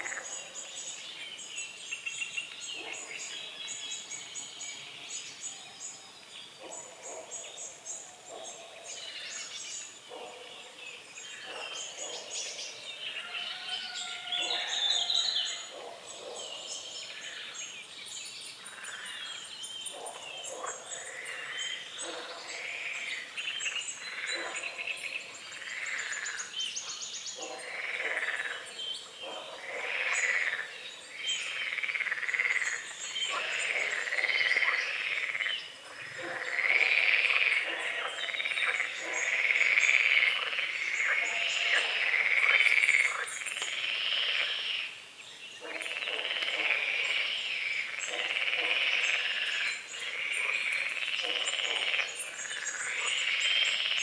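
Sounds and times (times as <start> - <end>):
chorus of frogs croaking: 0.0 - 5.1, 5.8 - 17.9, 18.5 - 54.0.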